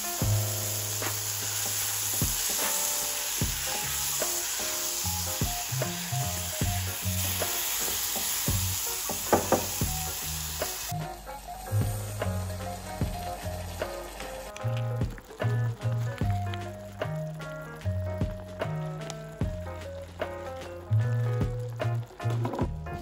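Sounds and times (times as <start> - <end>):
mushrooms sizzling in a pan: 0.0 - 23.0
soft background music: 0.0 - 23.0.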